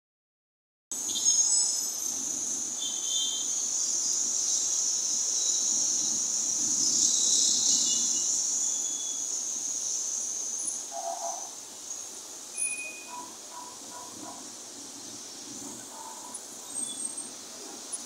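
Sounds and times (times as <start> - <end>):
distant road traffic: 1.7 - 18.0.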